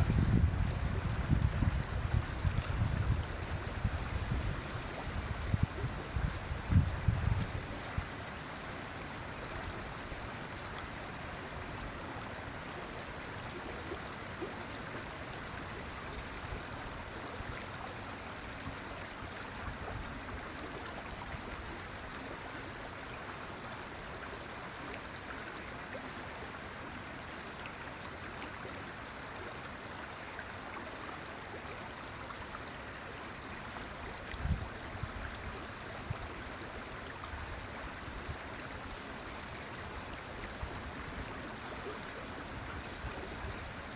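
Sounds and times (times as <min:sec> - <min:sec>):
river water flowing over rocks: 0:00.1 - 0:43.9.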